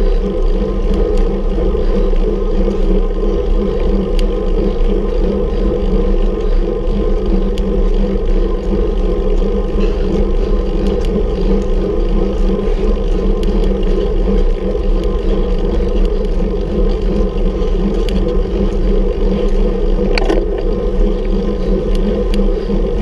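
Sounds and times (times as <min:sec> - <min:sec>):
bicycle riding drone: 0:00.0 - 0:23.0
faint ticks: 0:00.1 - 0:23.0.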